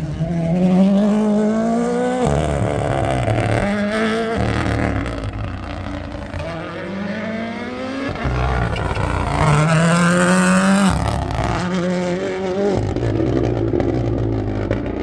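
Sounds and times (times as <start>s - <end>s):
rally car accelerating past: 0.0s - 15.0s.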